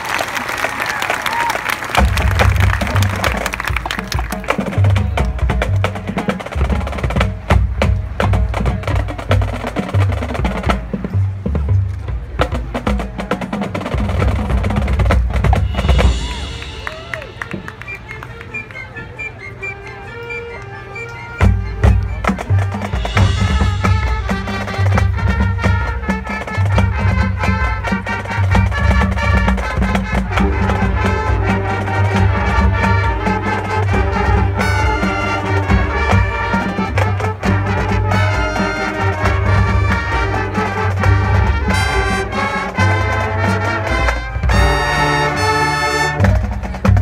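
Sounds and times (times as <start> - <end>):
marching band brass: 0.0 - 47.0
drums beating: 1.3 - 18.8, 21.4 - 47.0.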